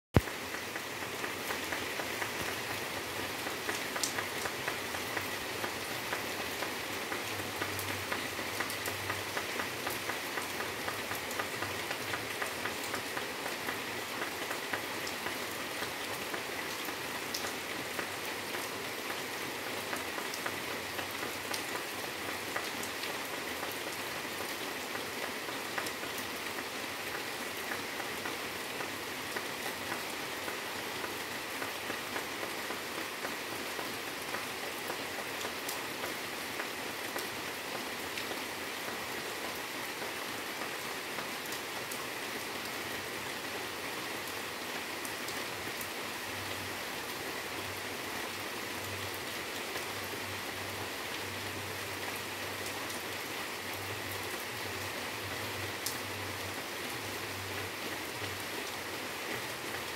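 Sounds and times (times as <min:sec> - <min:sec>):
rain falling on leaves: 0:00.2 - 0:59.9.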